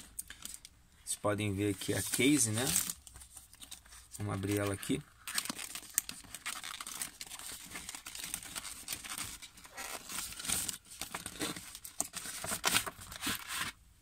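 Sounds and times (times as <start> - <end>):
cardboard box packaging rustling: 1.7 - 13.8.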